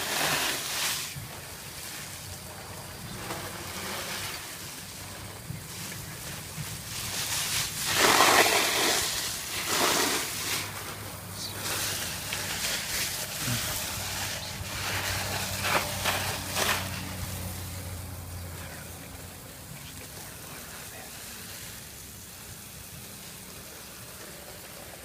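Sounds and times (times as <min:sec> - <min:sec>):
garden hose spray splashing: 0:00.0 - 0:25.0.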